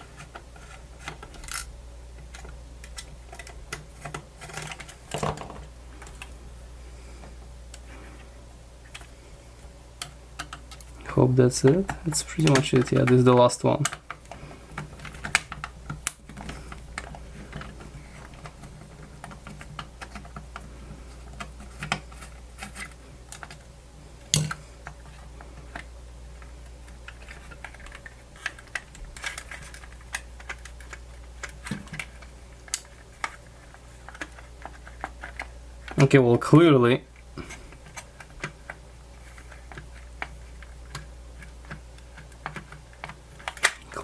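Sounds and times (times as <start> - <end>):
plastic parts clicking and tapping: 0.0 - 6.4, 10.0 - 23.6, 24.2 - 36.2, 37.4 - 44.0
steady low hum: 0.0 - 44.0.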